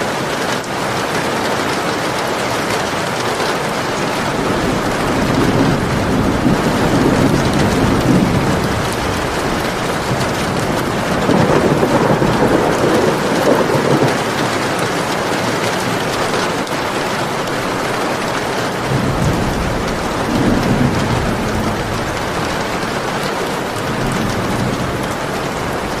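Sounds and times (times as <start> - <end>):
heavy rain: 0.0 - 26.0
thunder rumbling: 3.5 - 26.0.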